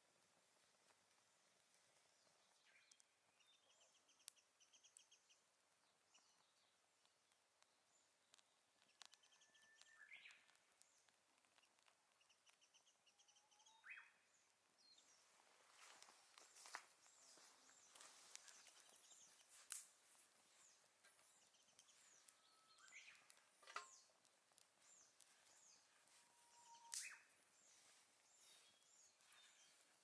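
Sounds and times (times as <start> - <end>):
firewood crackling: 0.0 - 13.1, 14.5 - 30.0
small birds chirping: 0.0 - 30.0.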